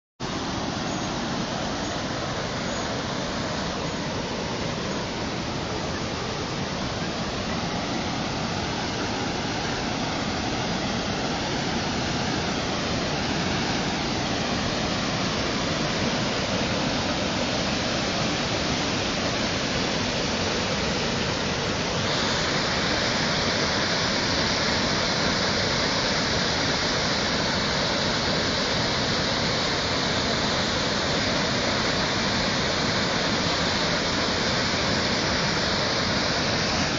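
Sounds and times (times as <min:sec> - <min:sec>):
floodwater rushing over rapids: 0:00.2 - 0:36.9.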